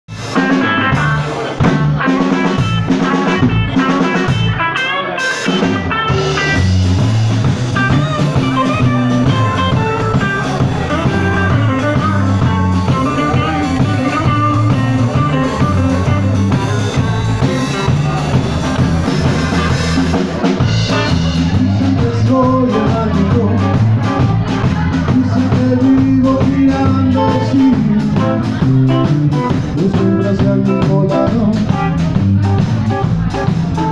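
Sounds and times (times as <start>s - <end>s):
drum kit: 0.1s - 33.9s
electric guitars: 0.1s - 33.9s.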